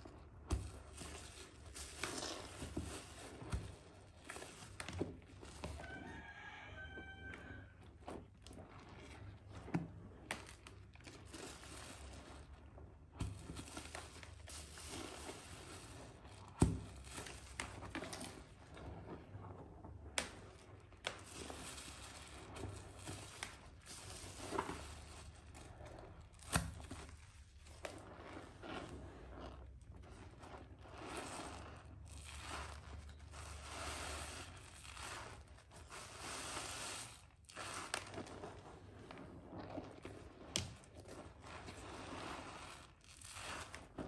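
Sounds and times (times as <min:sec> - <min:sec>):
wet squishing of soapy sponge: 0:00.0 - 0:44.0.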